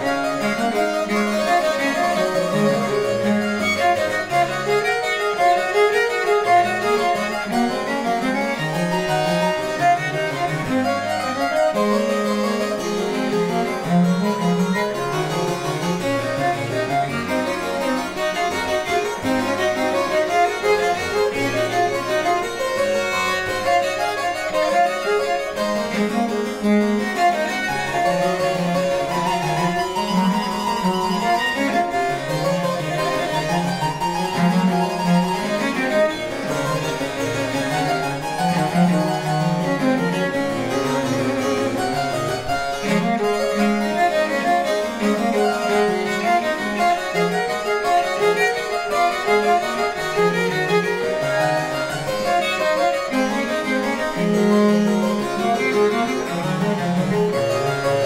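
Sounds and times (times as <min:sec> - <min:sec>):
harpsichord plucked notes: 0:00.0 - 0:58.0
viol bowed low line: 0:00.0 - 0:58.0.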